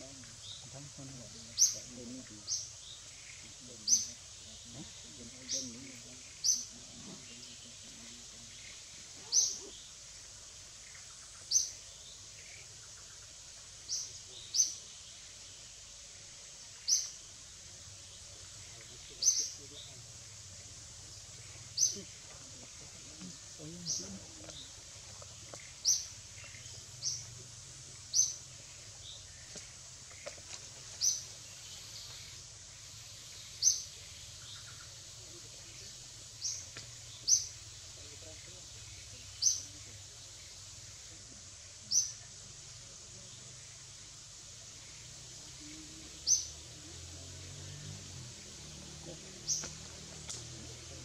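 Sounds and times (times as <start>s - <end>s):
bird chirping: 0.0s - 41.2s, 43.1s - 51.0s
outdoor background hiss: 0.0s - 51.0s.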